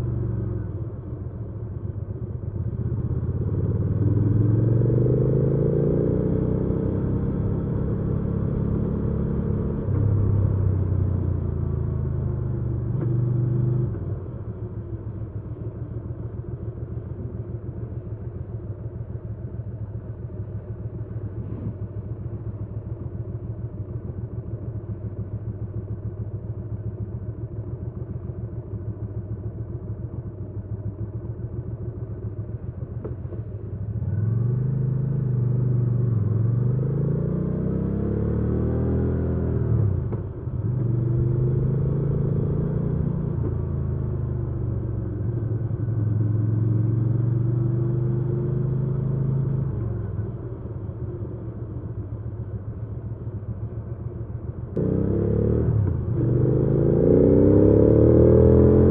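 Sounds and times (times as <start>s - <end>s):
motorcycle engine idling and revving: 0.0s - 58.9s.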